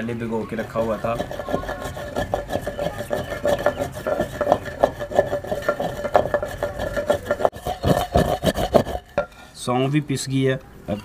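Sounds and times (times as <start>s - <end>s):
pestle grinding seeds in mortar: 0.0s - 9.4s.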